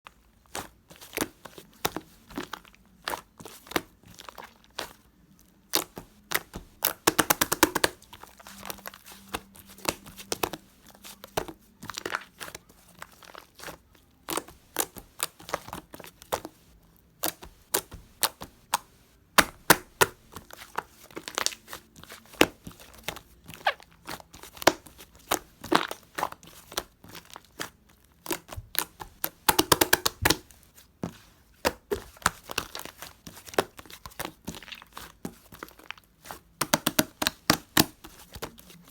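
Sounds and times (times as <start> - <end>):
slime being kneaded: 0.3 - 38.9.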